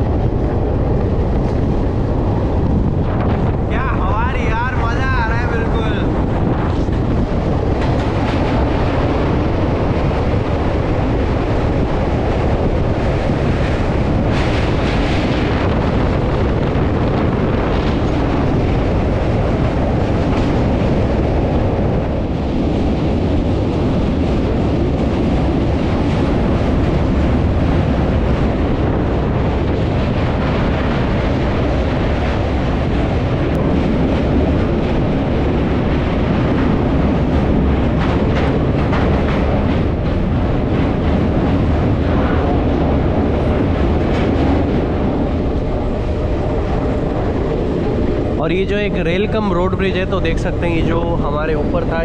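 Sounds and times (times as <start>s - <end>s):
train rumbling over bridge: 0.0s - 52.0s
wind noise on microphone: 0.0s - 52.0s.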